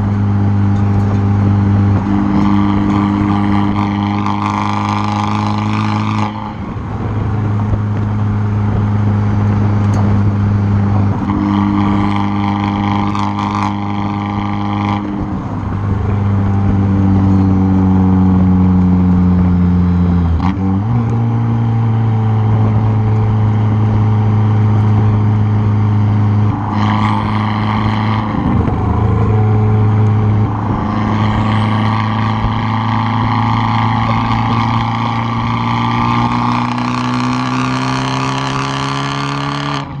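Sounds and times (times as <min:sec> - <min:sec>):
car engine exhaust revving: 0:00.0 - 0:40.0.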